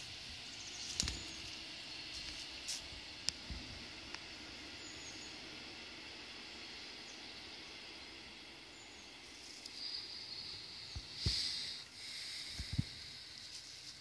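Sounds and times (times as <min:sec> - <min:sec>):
higher hiss: 0:00.0 - 0:14.0
outdoor background hiss: 0:00.0 - 0:14.0.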